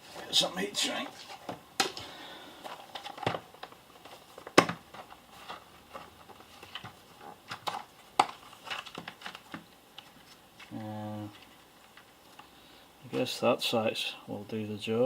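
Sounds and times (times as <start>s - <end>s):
small items rummaged on workbench: 0.0s - 12.5s.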